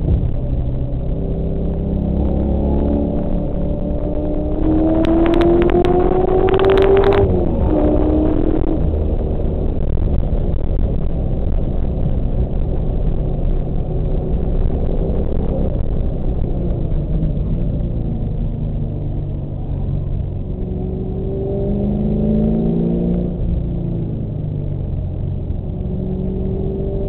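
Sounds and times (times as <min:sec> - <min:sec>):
car engine accelerating: 0:00.0 - 0:27.0
road and wind noise: 0:00.0 - 0:27.0.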